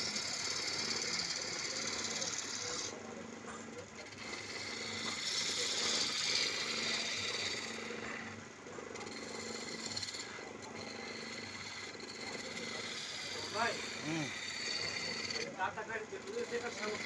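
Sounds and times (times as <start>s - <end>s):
turning tool scraping wood: 0.0s - 3.0s, 3.8s - 17.0s
wood lathe motor hum: 0.0s - 17.0s.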